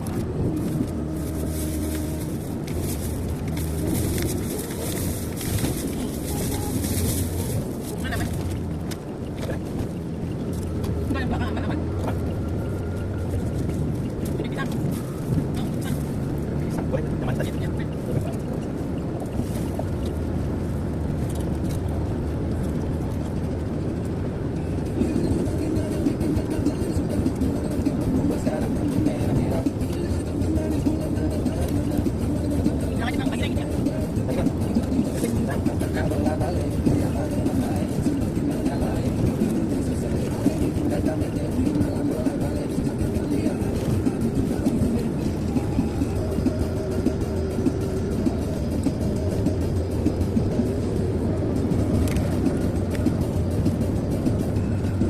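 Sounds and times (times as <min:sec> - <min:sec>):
engine and road drone: 0:00.0 - 0:55.0.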